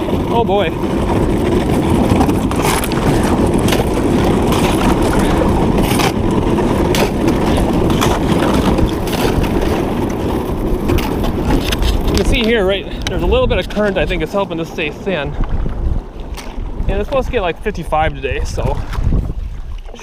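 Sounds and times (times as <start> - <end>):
ice crunching against kayak hull: 0.0 - 20.0.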